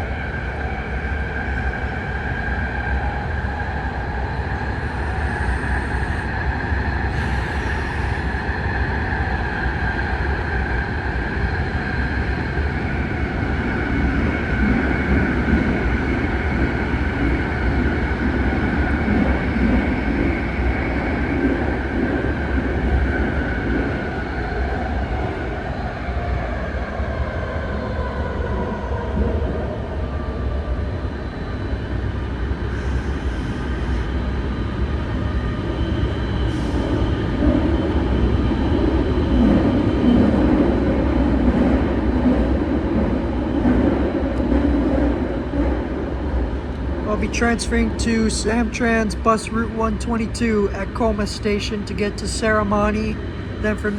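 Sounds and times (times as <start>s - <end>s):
train propulsion whine: 0.0s - 53.9s.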